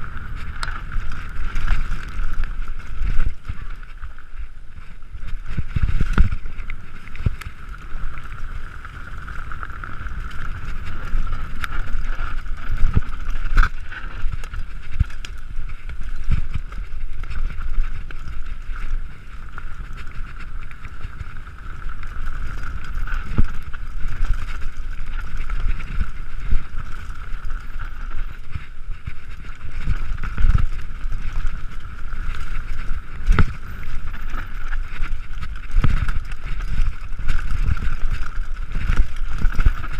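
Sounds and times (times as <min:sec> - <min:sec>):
bike wheels whirring: 0:00.0 - 0:39.9
wind rush on microphone: 0:00.0 - 0:39.9.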